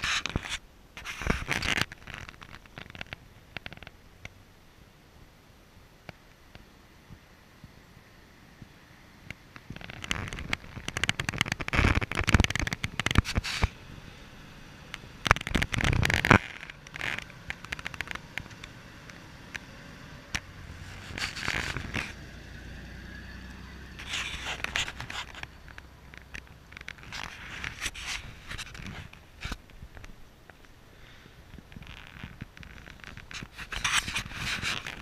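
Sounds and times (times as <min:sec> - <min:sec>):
tyres crackling on dirt and stones: 0:00.0 - 0:04.4, 0:08.6 - 0:35.0
low engine rumble: 0:03.1 - 0:31.8.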